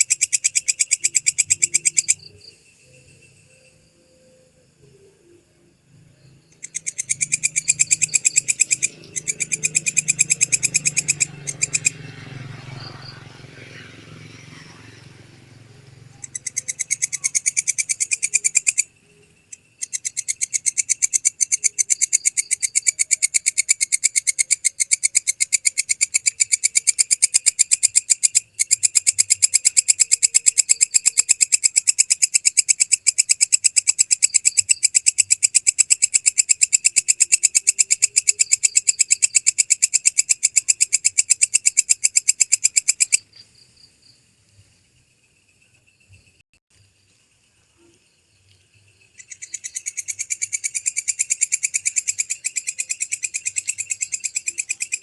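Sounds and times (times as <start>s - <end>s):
katydid calling in rapid pulses: 0.0s - 4.9s, 6.4s - 43.3s, 49.0s - 55.0s.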